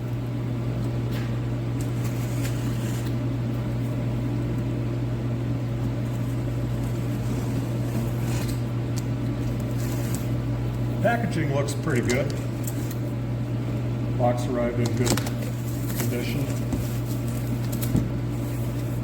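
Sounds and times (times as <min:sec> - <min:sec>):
fan noise: 0:00.0 - 0:19.0
overhead heater humming: 0:00.0 - 0:19.0.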